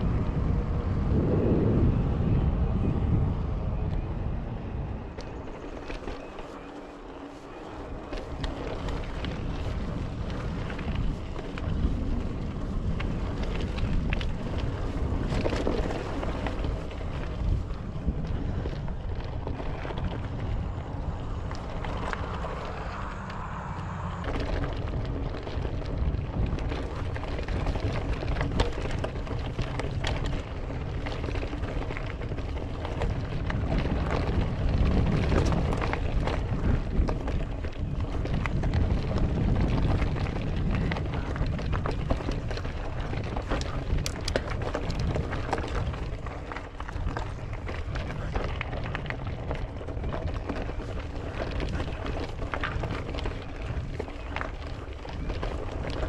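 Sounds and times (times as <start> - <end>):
bike tyres rumbling over dirt: 0.0 - 56.0
wind buffeting microphone: 0.0 - 56.0
bike clicking and rattling: 3.5 - 56.0.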